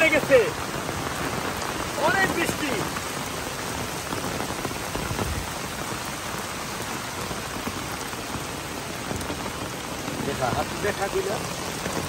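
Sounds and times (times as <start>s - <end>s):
heavy rain on pond: 0.0s - 12.0s.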